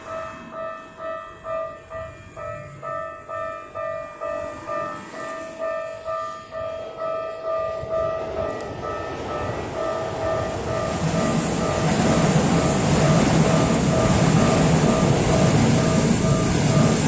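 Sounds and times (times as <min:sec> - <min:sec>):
level crossing bell clanging: 0:00.0 - 0:17.0
train rumble and wheel noise: 0:00.0 - 0:17.0.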